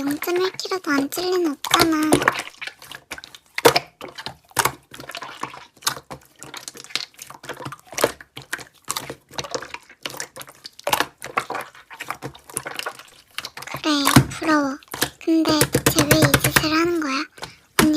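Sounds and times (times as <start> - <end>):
slime squished by hand: 0.0 - 17.9.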